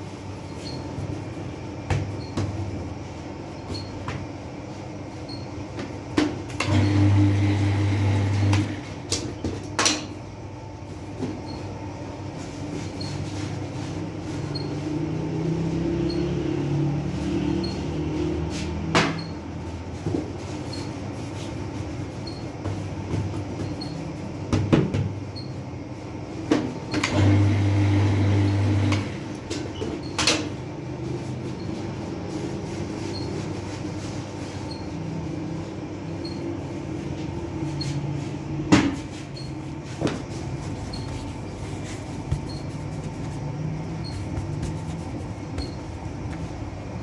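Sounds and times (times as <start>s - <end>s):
machinery rumble and hum: 0.0s - 47.0s.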